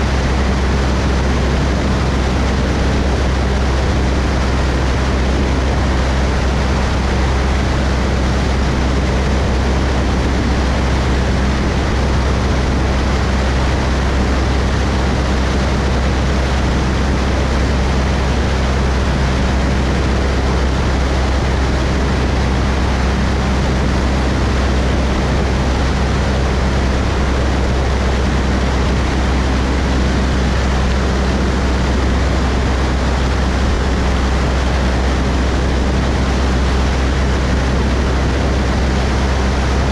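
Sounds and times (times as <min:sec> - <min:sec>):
airplane engine drone: 0:00.0 - 0:39.9
rushing air noise: 0:00.0 - 0:39.9.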